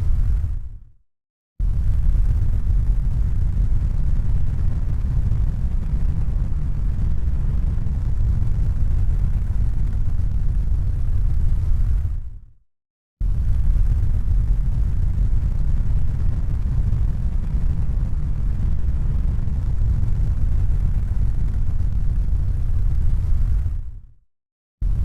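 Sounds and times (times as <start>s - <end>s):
low rumbling noise: 0.0s - 0.9s, 1.6s - 12.3s, 13.2s - 24.0s.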